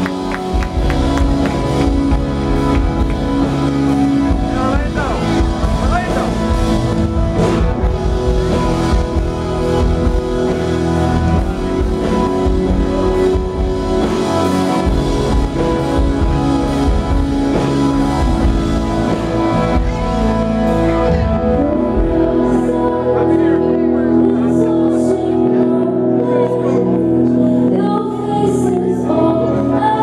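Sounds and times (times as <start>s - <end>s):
worship band with guitar and drums: 0.0s - 30.0s.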